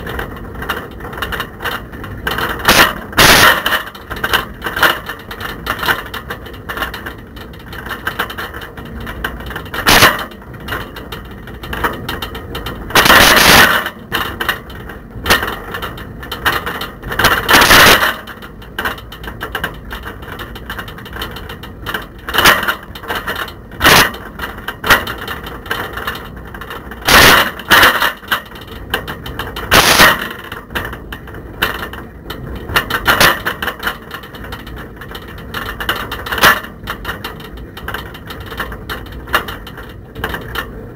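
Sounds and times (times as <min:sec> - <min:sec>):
camera rattling in bike basket: 0:00.0 - 0:40.9.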